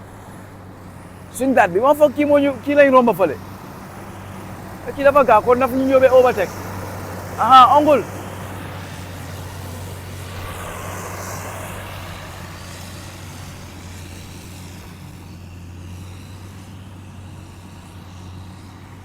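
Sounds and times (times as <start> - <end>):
road noise: 0.0 - 19.0
vehicle engine hum: 0.0 - 19.0.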